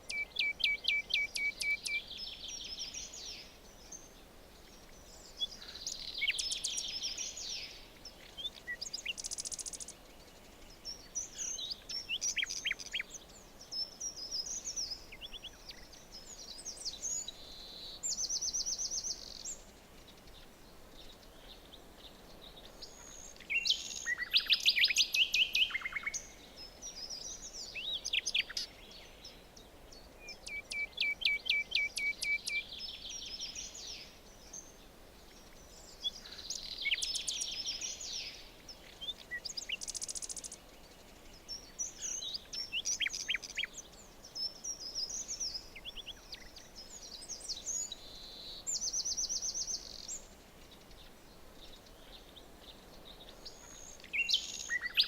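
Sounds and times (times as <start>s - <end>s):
faint steady hiss: 0.0s - 55.0s
songbirds singing and chirping: 0.0s - 55.0s.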